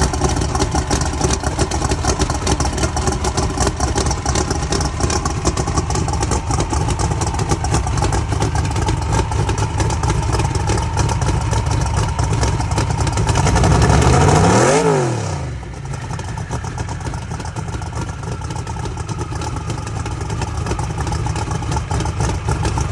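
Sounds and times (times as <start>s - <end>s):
car engine idling and revving: 0.0s - 22.9s.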